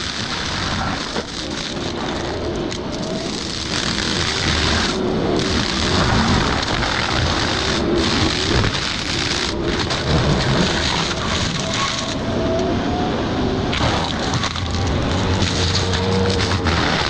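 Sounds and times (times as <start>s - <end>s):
mulcher grinding wood: 0.0s - 12.7s, 13.7s - 17.0s
diesel engine drone: 0.0s - 17.0s.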